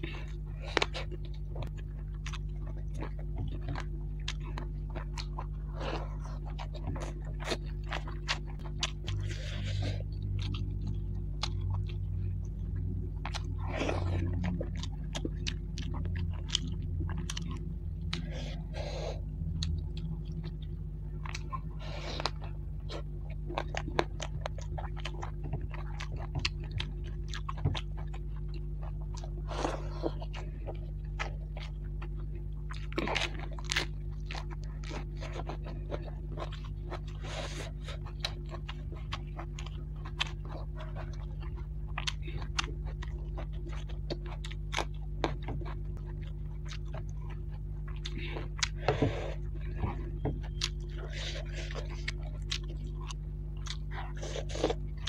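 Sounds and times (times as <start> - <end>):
steady low hum: 0.0 - 55.0
wet chewing and lip-smacking: 0.0 - 55.0.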